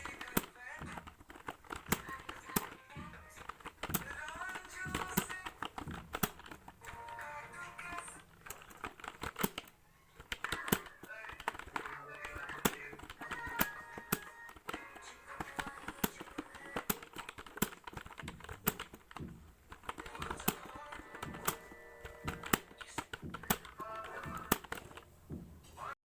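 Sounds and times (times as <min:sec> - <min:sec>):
keyboard keystroke clicks: 0:00.0 - 0:25.2
background music: 0:00.0 - 0:26.0.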